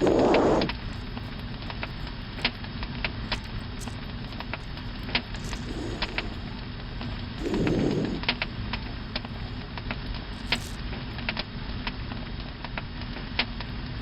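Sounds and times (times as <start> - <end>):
campfire crackling: 0.0 - 11.6.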